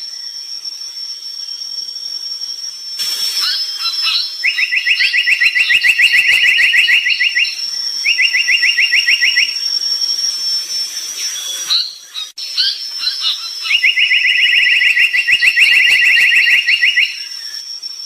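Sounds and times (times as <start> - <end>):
bird chirps and trills: 3.2 - 17.6.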